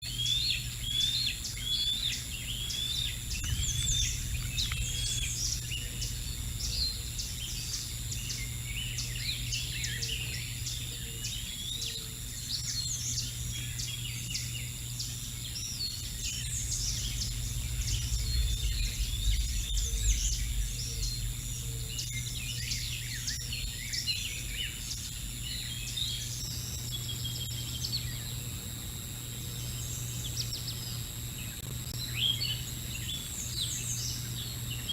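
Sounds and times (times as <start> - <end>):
low steady hum: 0.0 - 34.9
songbirds chirping and singing: 0.0 - 34.9.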